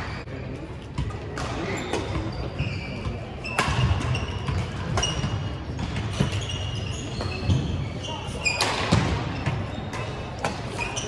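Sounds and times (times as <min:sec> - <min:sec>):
shoes squeaking on gym floor: 0:01.6 - 0:11.0.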